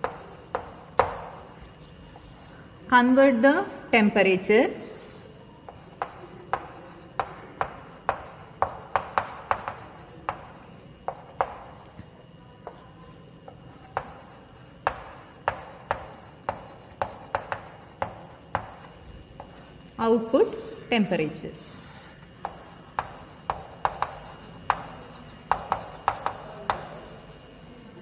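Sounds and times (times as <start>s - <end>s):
chalk tapping on blackboard: 0.0s - 2.6s, 4.8s - 20.6s, 21.6s - 27.4s.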